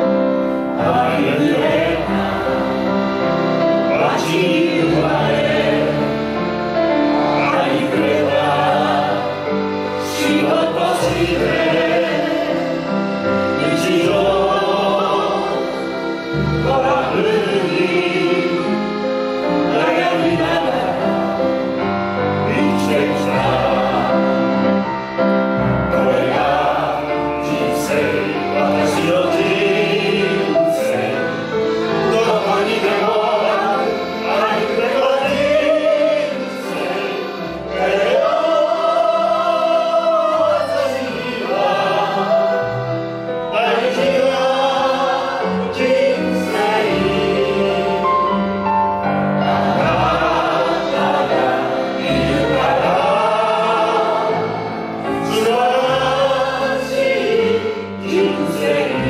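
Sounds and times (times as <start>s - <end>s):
group singing into microphones: 0.5s - 25.0s, 25.8s - 48.4s, 49.2s - 59.0s.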